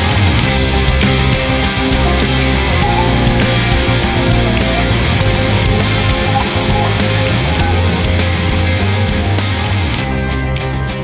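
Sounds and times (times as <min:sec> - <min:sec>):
heavy metal rock music: 0:00.0 - 0:11.0.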